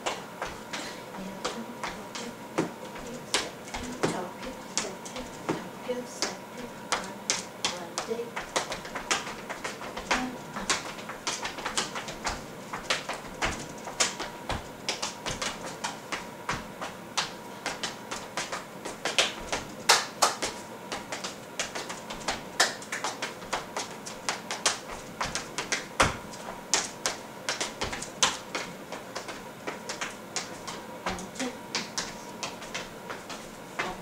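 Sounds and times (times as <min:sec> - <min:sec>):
tap shoes on hardwood floor: 0:00.0 - 0:34.0.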